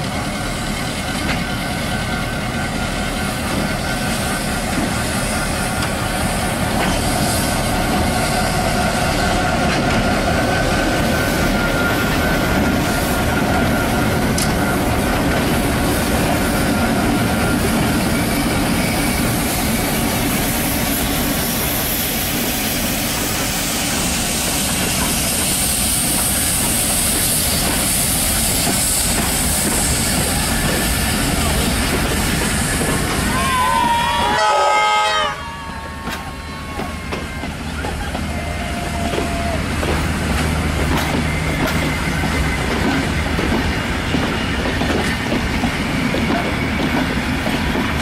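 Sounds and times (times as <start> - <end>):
diesel locomotive engine din: 0.0 - 48.0
steam locomotive hissing: 0.0 - 48.0
train wheels on rails: 0.0 - 48.0.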